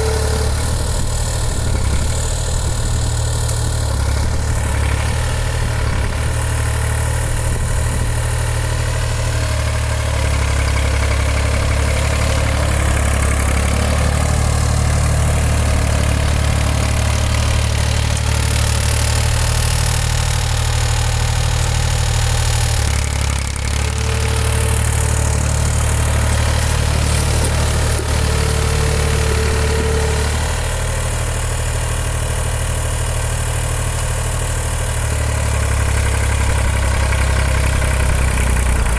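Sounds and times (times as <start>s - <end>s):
diesel tractor engine running: 0.0s - 38.9s.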